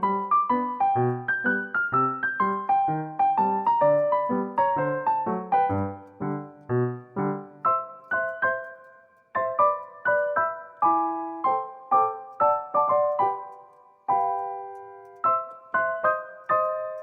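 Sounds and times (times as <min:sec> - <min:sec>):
light piano melody: 0:00.0 - 0:17.0.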